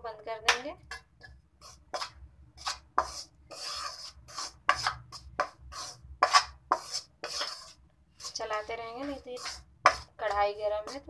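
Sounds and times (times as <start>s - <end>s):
steel spoon scraping a pan: 0.9s - 11.0s.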